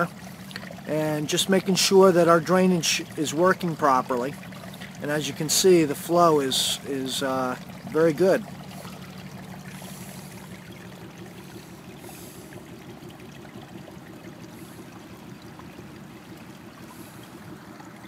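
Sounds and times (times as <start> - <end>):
rainwater running from pipe: 0.0 - 18.0.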